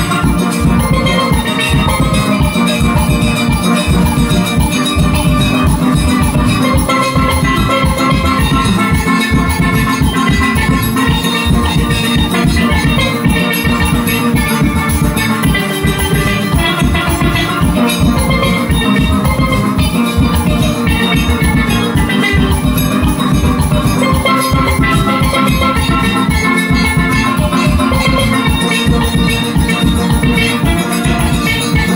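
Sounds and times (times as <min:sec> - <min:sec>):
driving drum beat: 0:00.0 - 0:31.9
steelpans playing melody: 0:00.0 - 0:31.9.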